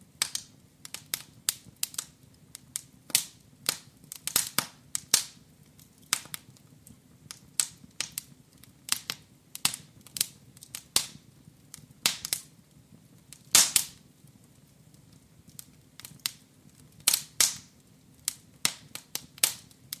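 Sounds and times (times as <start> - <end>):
fire crackling and popping: 0.1 - 20.0.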